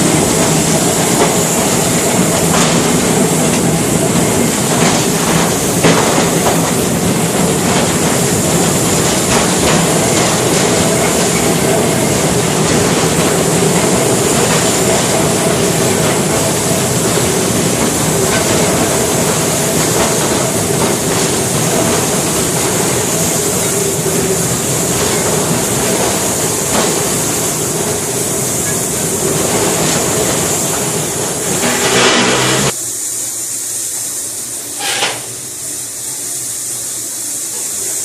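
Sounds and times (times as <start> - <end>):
train wheels rumbling on rails: 0.0 - 32.8.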